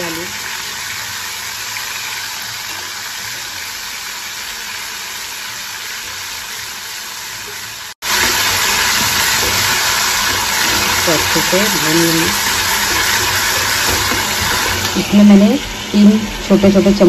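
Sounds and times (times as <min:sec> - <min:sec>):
paste sizzling in hot oil: 0:00.0 - 0:16.6.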